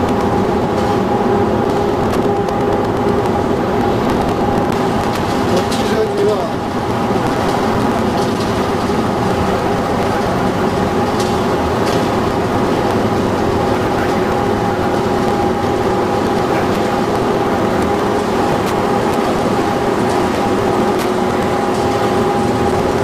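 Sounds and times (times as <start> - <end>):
machinery mechanical din: 0.0 - 23.0.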